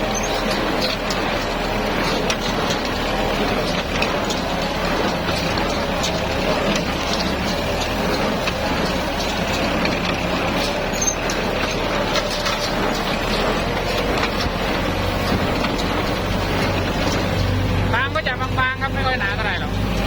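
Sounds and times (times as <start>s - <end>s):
machinery clicking: 0.0s - 20.0s
tractor engine running: 0.0s - 20.0s.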